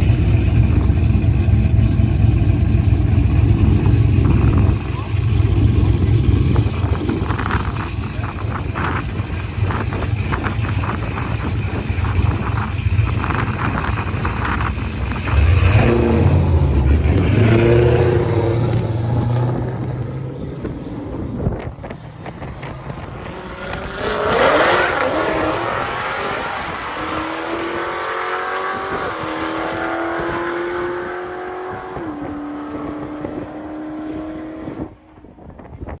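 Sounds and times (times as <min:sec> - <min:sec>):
car engines revving through gears: 0:00.0 - 0:35.0.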